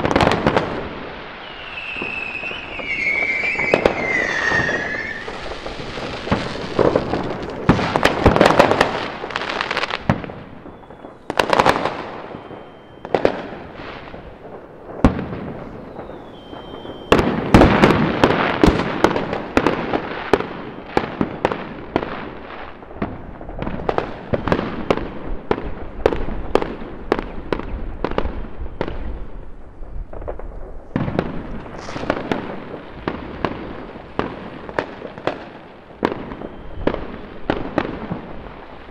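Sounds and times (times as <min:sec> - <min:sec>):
fireworks bangs and crackling pops: 0:00.0 - 0:38.9.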